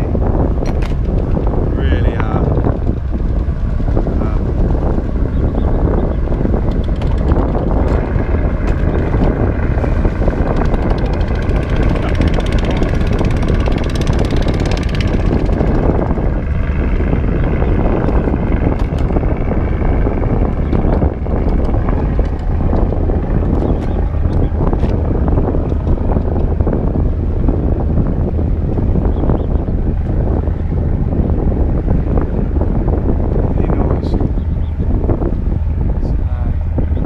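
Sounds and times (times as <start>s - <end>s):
boat engine running: 0.0s - 37.0s
wind buffeting microphone: 0.0s - 37.0s.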